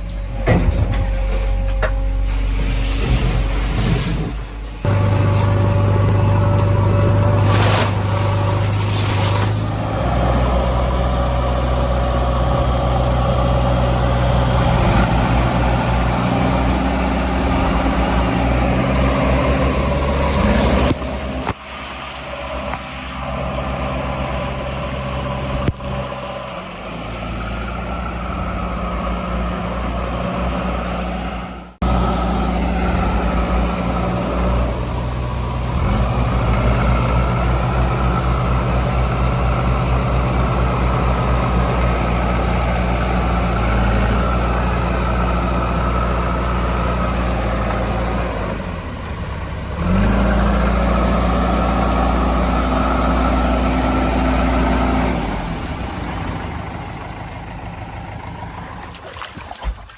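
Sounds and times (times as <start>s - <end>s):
diesel engine idling: 4.5s - 59.2s.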